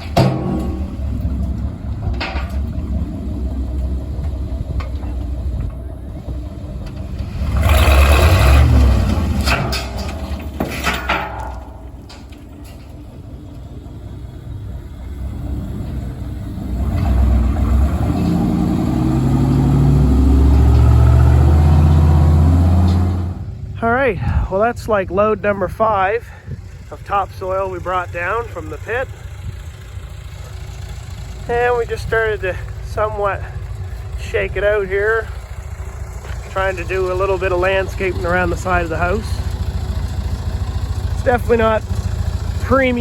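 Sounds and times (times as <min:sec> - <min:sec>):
heavy vehicle engine running: 0:00.0 - 0:43.0.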